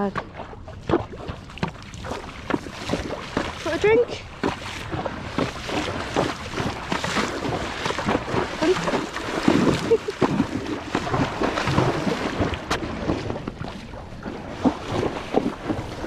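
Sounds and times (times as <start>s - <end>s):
horse hooves splashing water: 0.0s - 16.0s.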